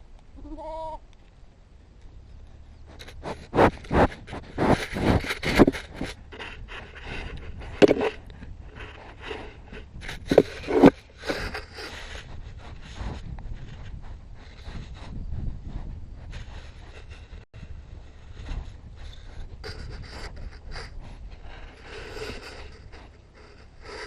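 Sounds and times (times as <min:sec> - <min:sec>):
scraping against microphone: 0:02.8 - 0:24.0.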